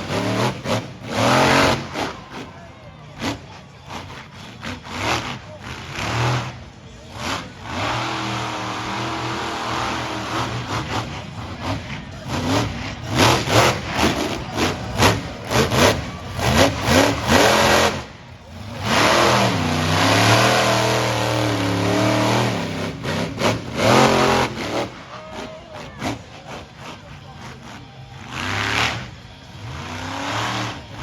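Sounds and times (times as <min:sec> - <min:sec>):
monster truck engine revving: 0:00.0 - 0:31.0.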